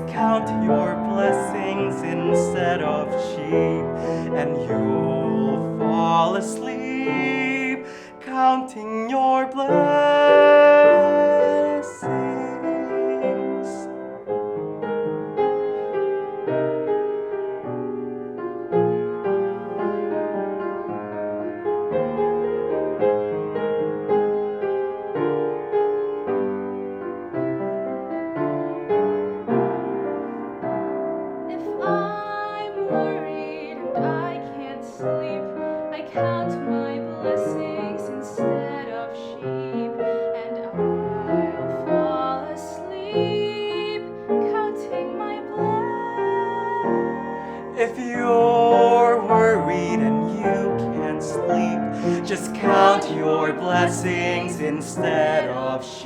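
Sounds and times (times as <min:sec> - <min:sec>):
slow gentle piano: 0:00.0 - 0:56.0.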